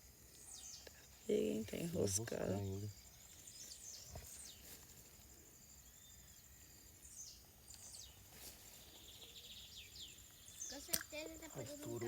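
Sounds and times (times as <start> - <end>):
insect drone: 0.0 - 12.0
birds chirping: 0.3 - 4.9, 5.6 - 12.0.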